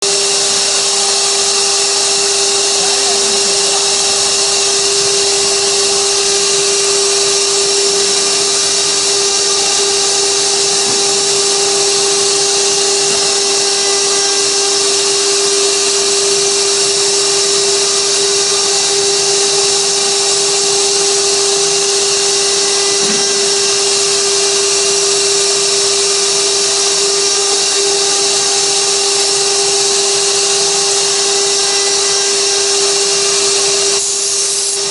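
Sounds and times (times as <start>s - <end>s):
hiss of wood cutting: 0.0s - 34.9s
router spindle whine: 0.0s - 34.9s.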